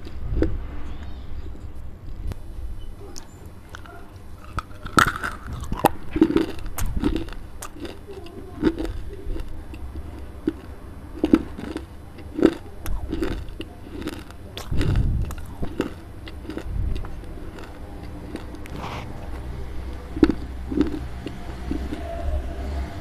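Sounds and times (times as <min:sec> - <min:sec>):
close-up crunching and chewing: 0:03.0 - 0:22.1.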